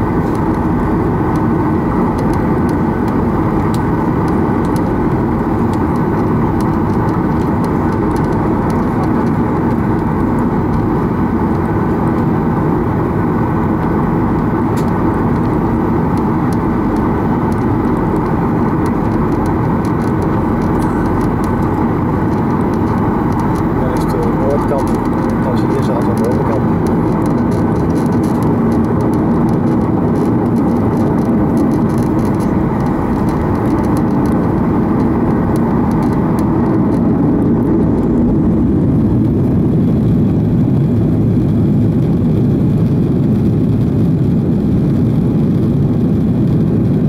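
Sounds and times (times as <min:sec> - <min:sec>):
jet engines humming in cabin: 0:00.0 - 0:47.0.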